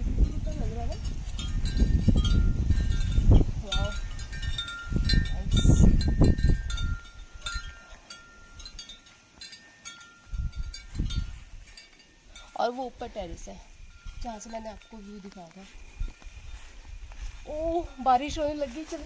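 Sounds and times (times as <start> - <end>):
wind chimes ringing: 0.2 - 18.9.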